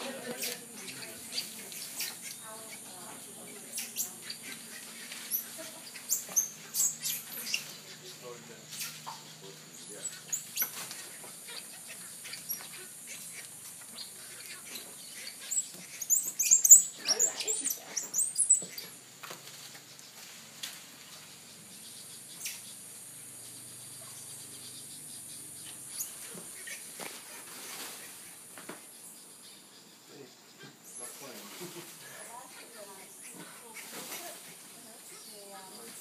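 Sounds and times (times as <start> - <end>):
monkeys squeaking and chirping: 0.0 - 19.0, 21.4 - 36.0.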